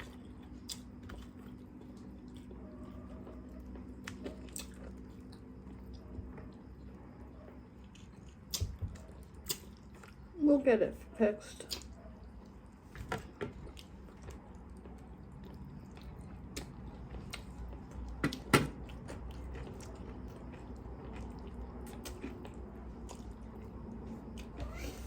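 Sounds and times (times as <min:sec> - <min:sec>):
chewing crunchy fried chicken: 0:00.0 - 0:10.4, 0:11.6 - 0:25.0.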